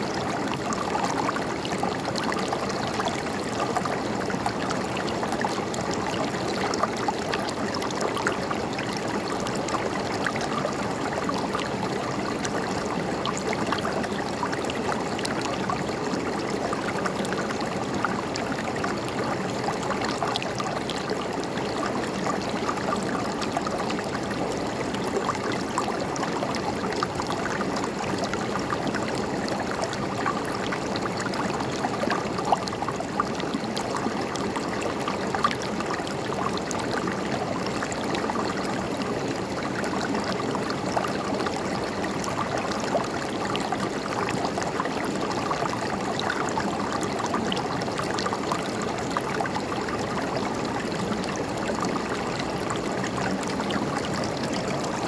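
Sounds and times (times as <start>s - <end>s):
river water babbling: 0.1s - 55.0s.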